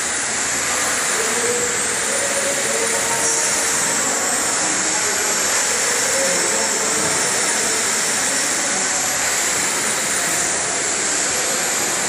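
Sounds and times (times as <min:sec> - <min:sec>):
factory machinery hiss: 0:00.0 - 0:12.0
faint machine whine: 0:00.0 - 0:12.0.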